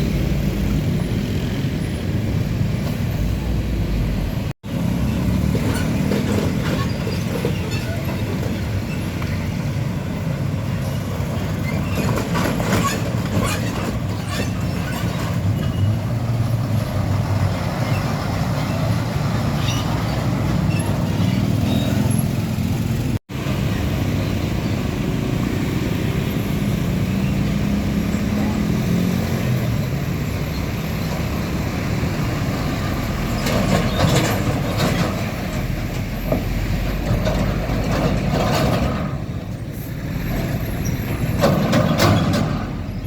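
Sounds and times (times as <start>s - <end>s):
heavy truck engines rumbling: 0.0s - 43.0s.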